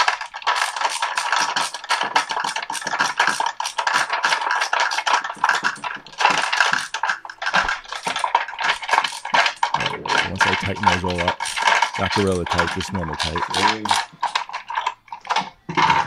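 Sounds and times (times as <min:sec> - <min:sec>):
screwdriver clicking and scraping: 0:00.0 - 0:16.0.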